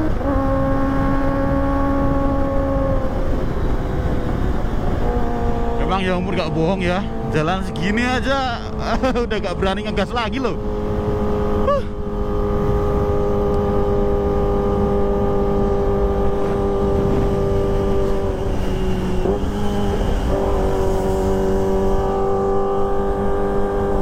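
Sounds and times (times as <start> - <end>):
motorcycle engine cruising: 0.0 - 24.0
wind rushing: 0.6 - 22.1.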